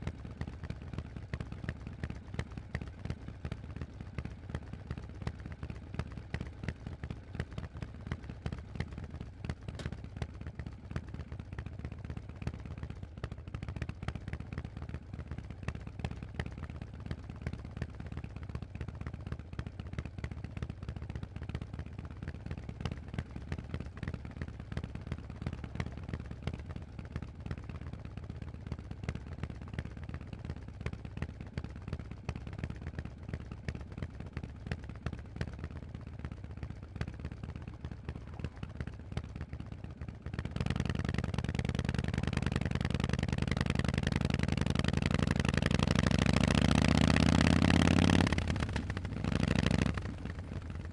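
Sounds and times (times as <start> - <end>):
motorcycle exhaust pulses: 0.0 - 50.9.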